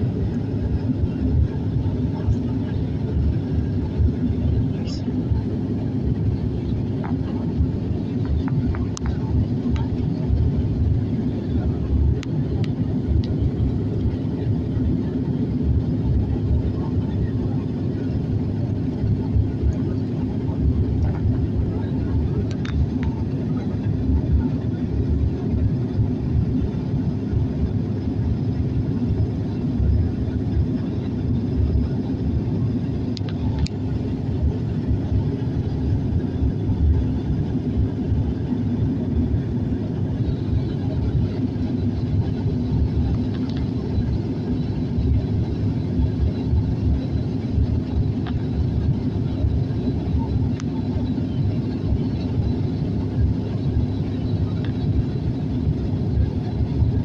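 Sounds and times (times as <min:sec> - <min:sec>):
airliner engine rumble in cabin: 0:00.0 - 0:57.0.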